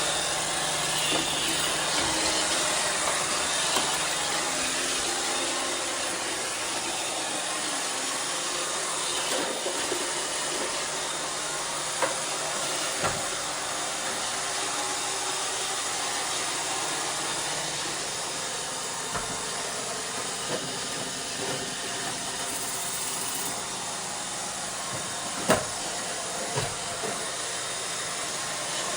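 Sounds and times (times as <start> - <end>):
robot vacuum whirring: 0.0 - 28.9.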